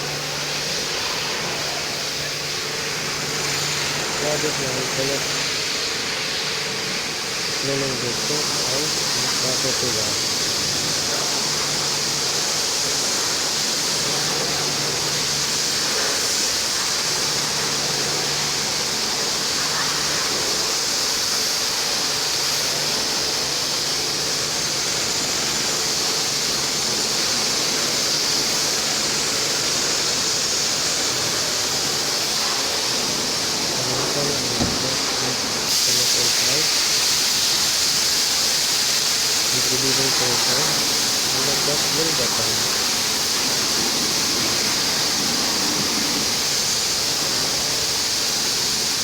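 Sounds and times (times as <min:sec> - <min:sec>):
pressure washer spraying water: 0:00.0 - 0:49.0.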